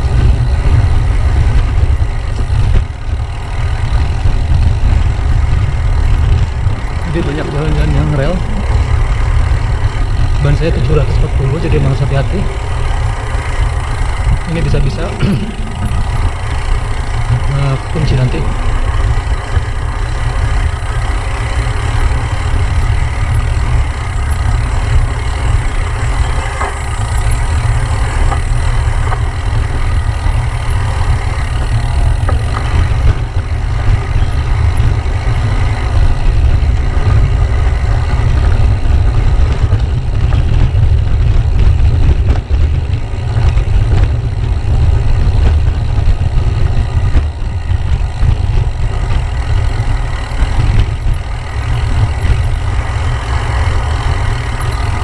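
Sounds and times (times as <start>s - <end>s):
bike rattling: 0.0s - 55.0s
wind rumbling on microphone: 0.0s - 55.0s.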